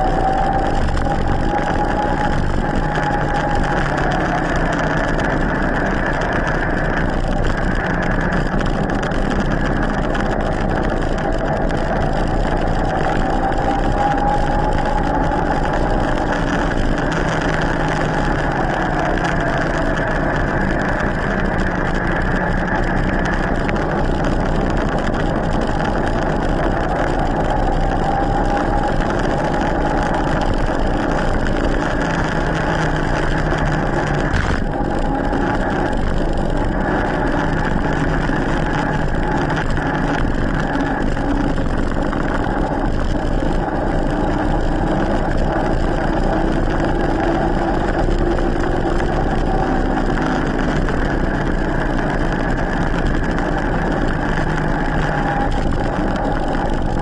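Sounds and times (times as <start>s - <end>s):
tyre noise on asphalt: 0.0s - 57.0s
wind rushing: 0.0s - 57.0s.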